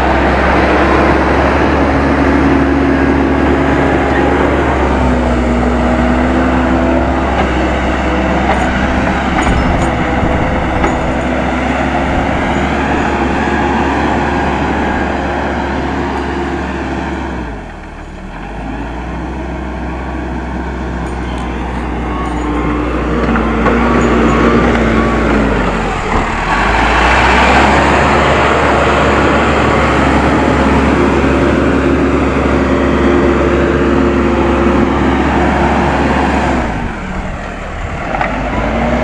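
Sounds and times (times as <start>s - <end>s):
diesel engine under load: 0.0s - 39.0s.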